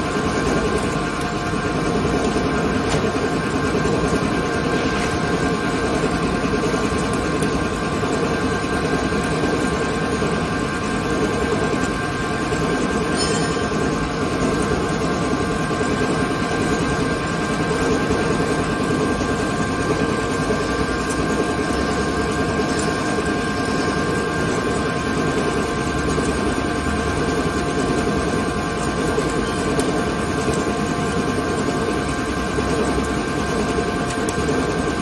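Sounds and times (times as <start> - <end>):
high-pitched machine whine: 0.0 - 35.0
lathe mechanical drone: 0.0 - 35.0.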